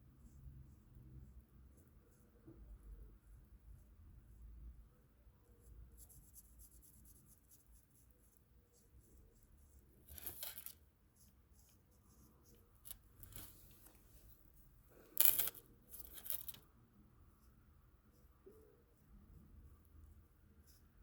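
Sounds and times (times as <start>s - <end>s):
coloring strokes on paper: 0.0s - 14.8s, 17.3s - 21.0s.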